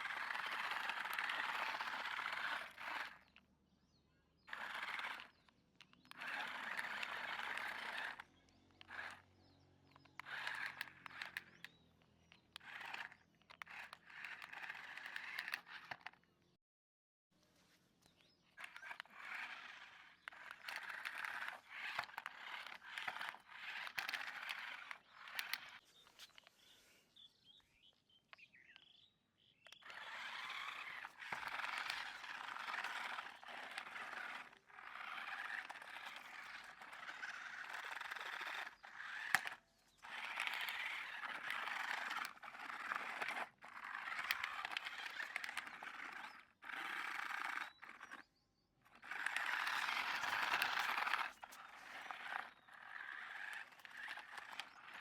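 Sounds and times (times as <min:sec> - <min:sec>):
toy car motors whirring: 0:00.0 - 0:16.4, 0:18.0 - 0:55.0.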